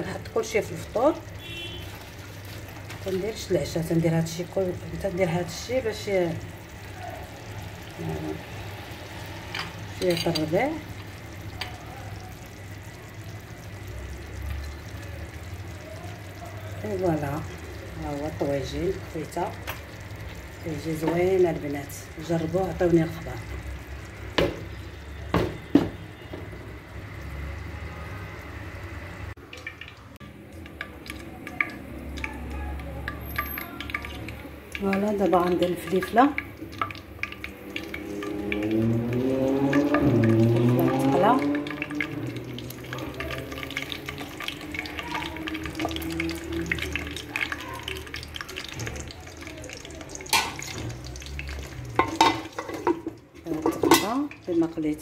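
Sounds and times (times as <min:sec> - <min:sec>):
peppers sizzling in hot oil: 0:00.0 - 0:55.0.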